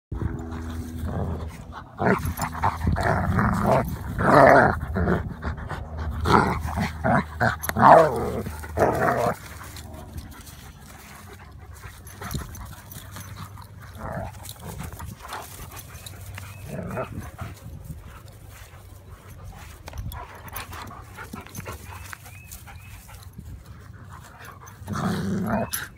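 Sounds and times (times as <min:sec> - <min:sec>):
dogs growling and snarling: 0:00.2 - 0:25.9.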